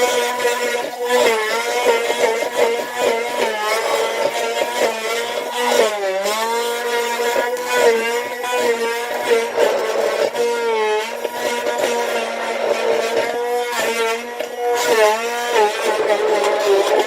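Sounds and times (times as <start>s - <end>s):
hand blender motor whining: 0.0s - 17.0s.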